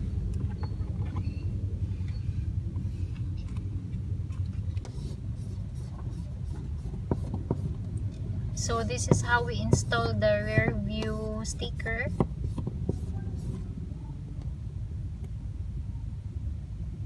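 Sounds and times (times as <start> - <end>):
idling car rumble from inside: 0.0 - 17.0.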